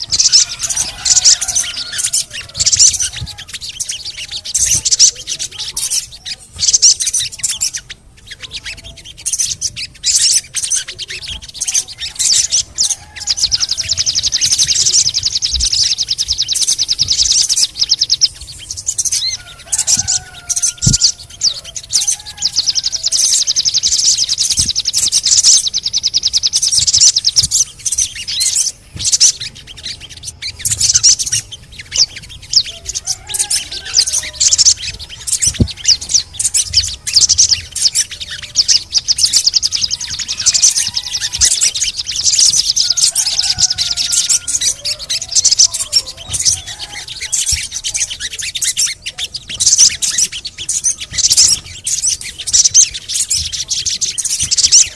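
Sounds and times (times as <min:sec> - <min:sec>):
bird chattering trills: 0:00.0 - 0:54.9.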